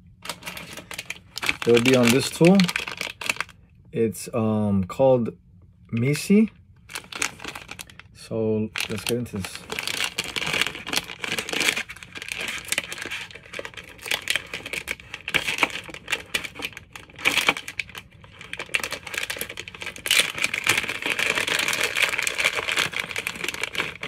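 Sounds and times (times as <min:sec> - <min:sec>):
plastic bag crinkling: 0:00.2 - 0:03.6, 0:06.4 - 0:08.1, 0:08.8 - 0:24.0.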